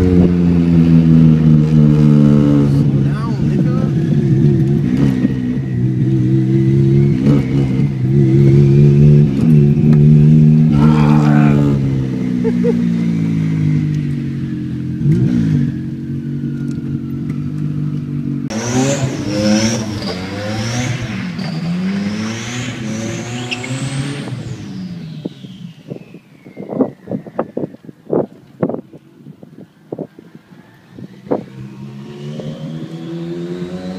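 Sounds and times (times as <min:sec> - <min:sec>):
car engine revving: 0:00.0 - 0:25.9, 0:30.2 - 0:33.9.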